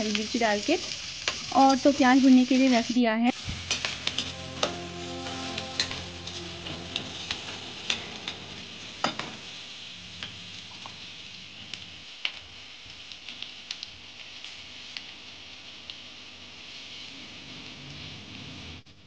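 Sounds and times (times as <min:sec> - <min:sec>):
onions sizzling in oil: 0:00.0 - 0:17.4.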